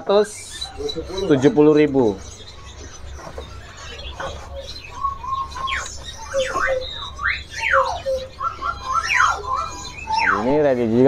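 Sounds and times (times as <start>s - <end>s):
songbirds chirping: 0.0s - 11.0s
steady low hum: 0.0s - 11.0s.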